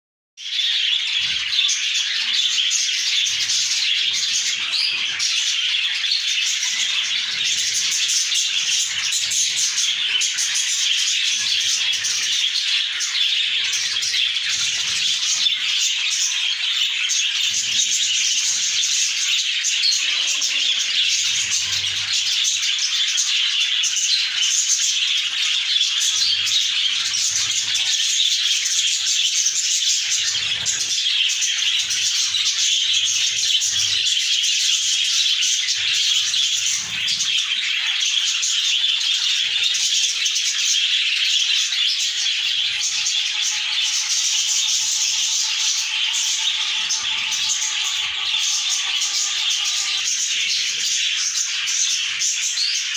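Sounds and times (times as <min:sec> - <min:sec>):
budgerigars chattering: 0:00.5 - 0:52.9.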